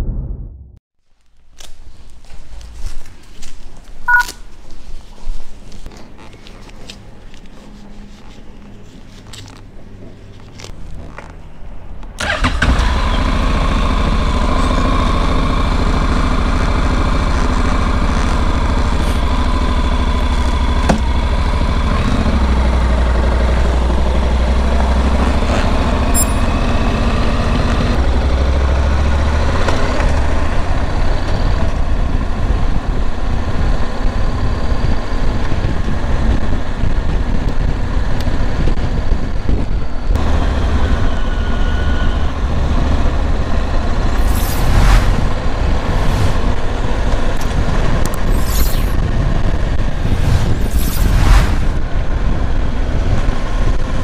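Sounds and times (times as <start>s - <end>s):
muffled motorcycle engine: 5.8s - 54.0s.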